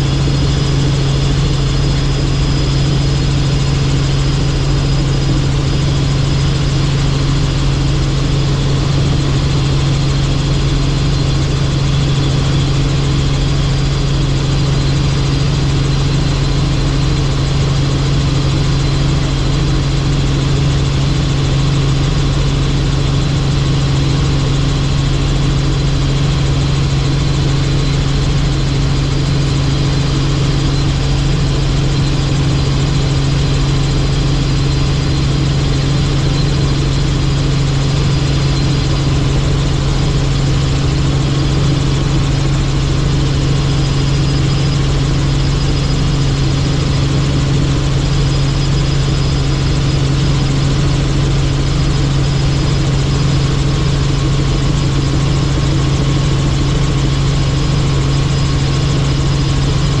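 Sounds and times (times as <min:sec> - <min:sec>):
helicopter engine and rotor drone: 0:00.0 - 1:00.0.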